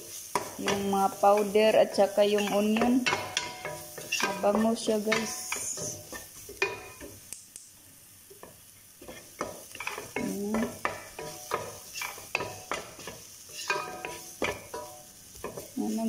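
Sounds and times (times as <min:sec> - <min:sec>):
wooden spoon scraping a pot: 0:00.0 - 0:07.2, 0:09.0 - 0:16.0
onions sizzling in oil: 0:00.0 - 0:16.0.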